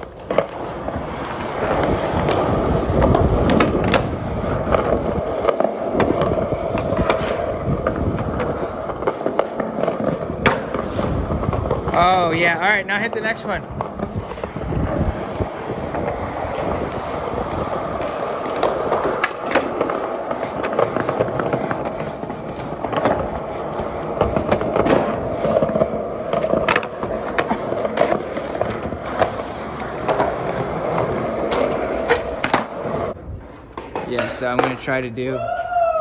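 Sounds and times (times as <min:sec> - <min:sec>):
skateboard clacking on concrete: 0:00.0 - 0:35.2
skateboard wheels rolling on concrete: 0:00.0 - 0:36.0.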